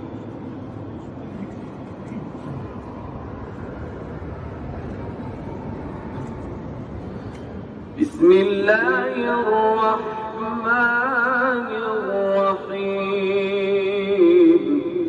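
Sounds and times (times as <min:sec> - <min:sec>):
room noise rumble and hiss: 0:00.0 - 0:15.0.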